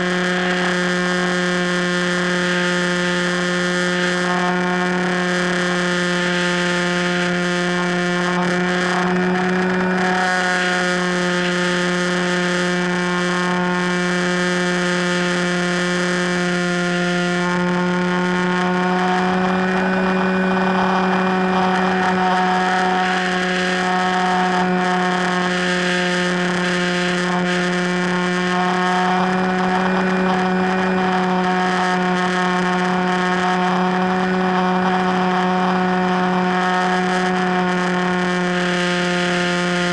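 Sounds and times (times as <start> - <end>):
model plane motor droning: 0.0 - 39.9.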